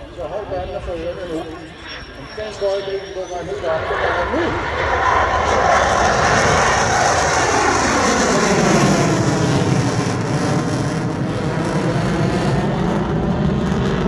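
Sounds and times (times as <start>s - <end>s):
fighter jet flying past: 0.0s - 14.0s.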